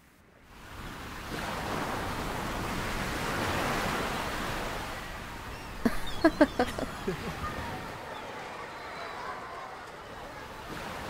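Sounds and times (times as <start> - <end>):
ocean wave washing: 0.5 - 11.0.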